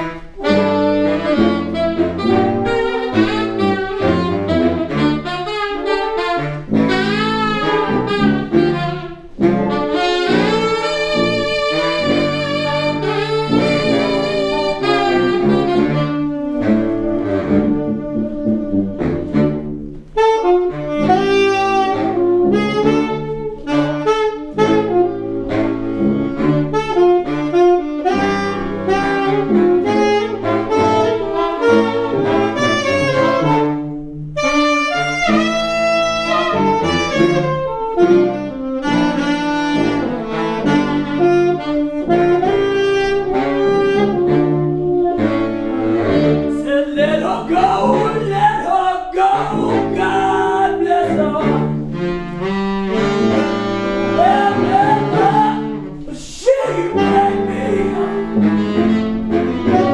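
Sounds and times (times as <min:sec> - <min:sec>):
saxophones playing together: 0:00.0 - 0:59.9.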